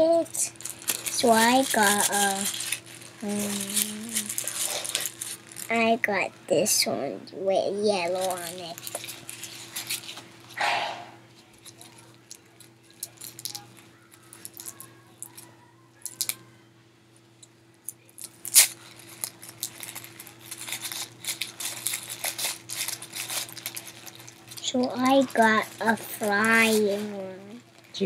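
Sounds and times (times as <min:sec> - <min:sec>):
plastic packaging crinkling: 0:00.0 - 0:06.2, 0:07.8 - 0:10.6, 0:11.4 - 0:16.4, 0:17.9 - 0:28.0.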